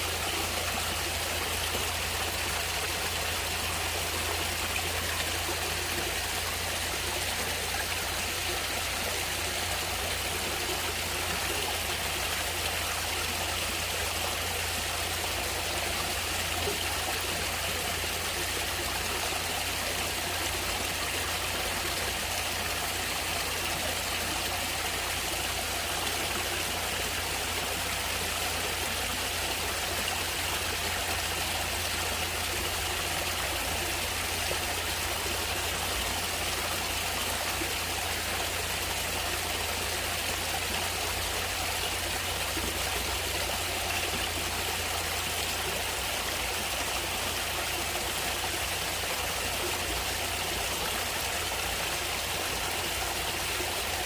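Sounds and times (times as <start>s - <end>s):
stream of water running: 0.0s - 54.0s.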